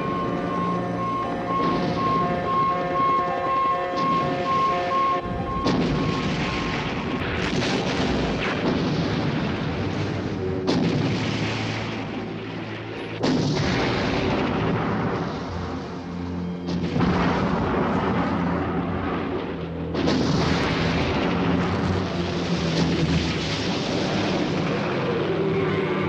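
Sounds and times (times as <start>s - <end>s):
explosions with rumbling: 0.0s - 3.0s, 3.9s - 16.0s, 16.7s - 25.5s.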